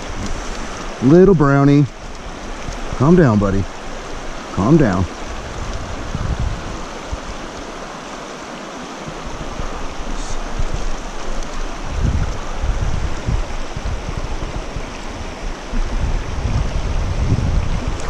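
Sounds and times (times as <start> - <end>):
wind buffeting microphone: 0.0 - 8.2, 9.0 - 18.0
river water rushing: 0.0 - 18.0.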